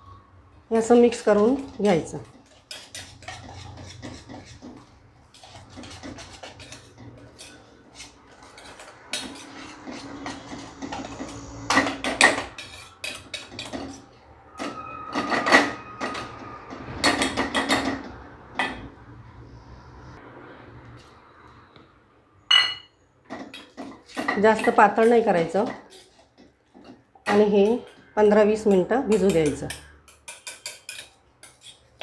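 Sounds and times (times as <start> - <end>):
whisk scraping a metal bowl: 1.1 - 18.7, 23.4 - 32.0.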